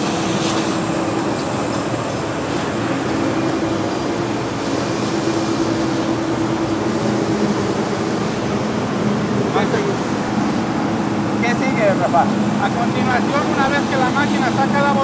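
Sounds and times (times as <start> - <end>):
factory machinery running: 0.0 - 15.0.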